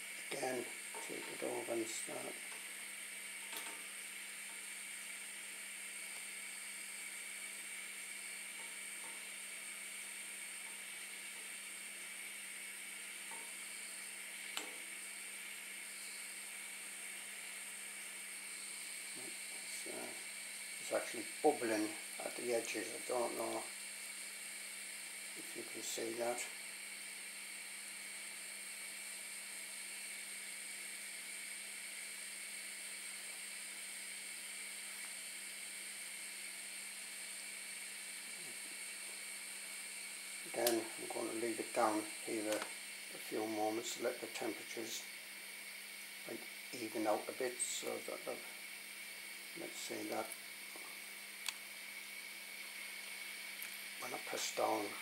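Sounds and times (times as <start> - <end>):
gas flame hissing: 0.0 - 55.0.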